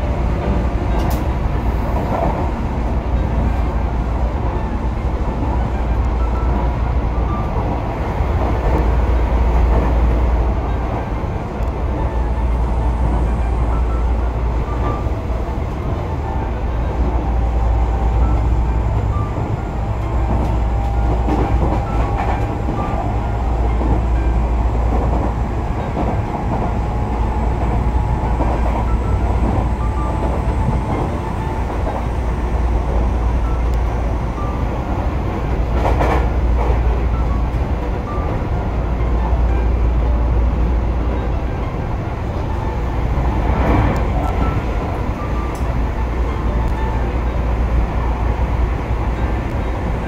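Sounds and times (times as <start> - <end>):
train clack: 0.0 - 50.0
train wheels rumbling on rails: 0.0 - 50.0.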